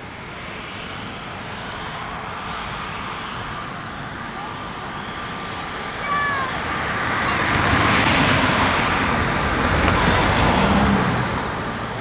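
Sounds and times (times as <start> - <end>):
passing vehicle rushing: 0.0 - 12.0.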